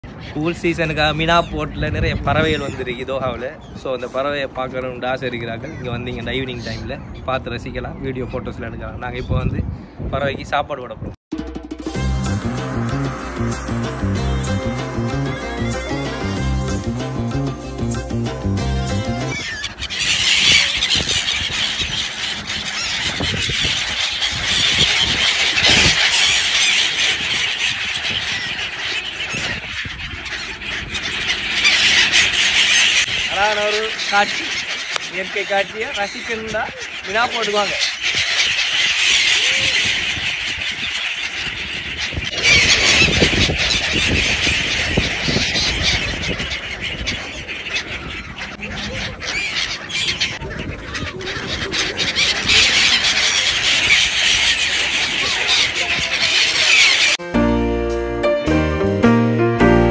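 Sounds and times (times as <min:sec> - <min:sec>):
flock of gulls calling: 0:00.0 - 0:10.0, 0:12.2 - 0:57.4.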